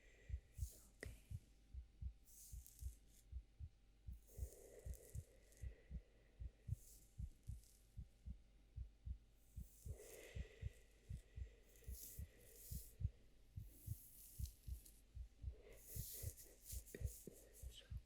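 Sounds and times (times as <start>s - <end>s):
heartbeat thumps: 0.0s - 18.0s.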